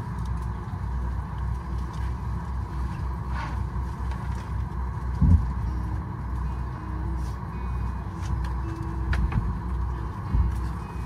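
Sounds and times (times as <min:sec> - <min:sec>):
aircraft cabin rumble and hum: 0:00.0 - 0:11.0.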